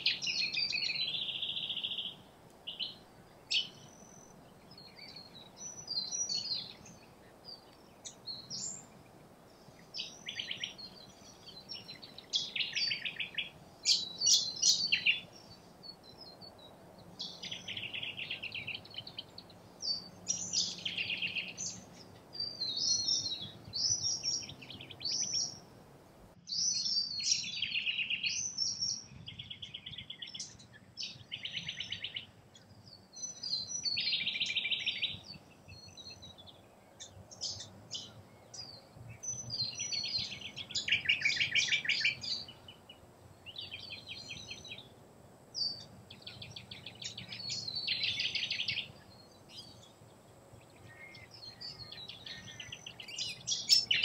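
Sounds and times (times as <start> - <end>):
birds chirping and chattering: 0.0 - 25.8, 26.5 - 54.0.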